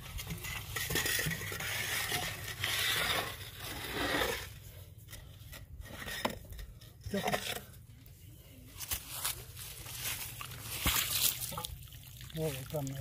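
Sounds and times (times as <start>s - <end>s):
pipe scraping in soil: 0.0s - 11.7s.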